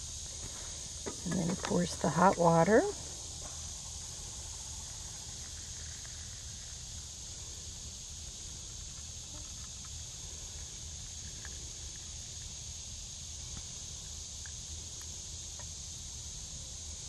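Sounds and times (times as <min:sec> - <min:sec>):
steady high hiss: 0:00.0 - 0:17.0
water trickling onto coffee grounds: 0:00.2 - 0:15.7.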